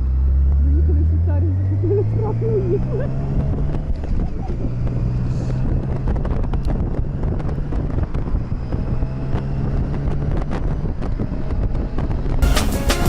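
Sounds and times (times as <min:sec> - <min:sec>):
motorcycle engine hum: 0:00.0 - 0:13.0
wind buffeting microphone: 0:00.2 - 0:12.4.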